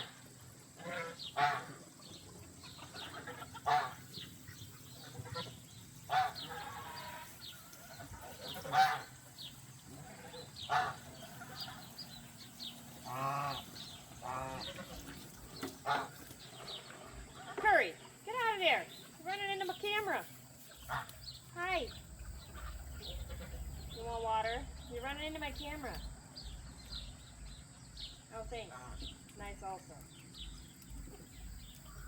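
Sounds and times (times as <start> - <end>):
geese honking: 0.8 - 27.1.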